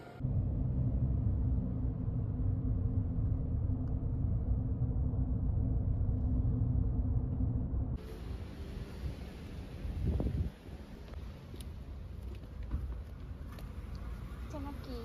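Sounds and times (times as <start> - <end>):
muffled street rumble: 0.0 - 15.0.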